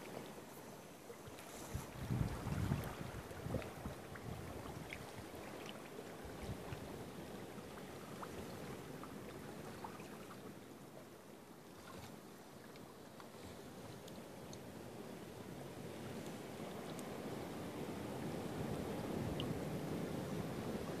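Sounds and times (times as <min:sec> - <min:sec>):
water lapping and sloshing: 0:00.0 - 0:21.0.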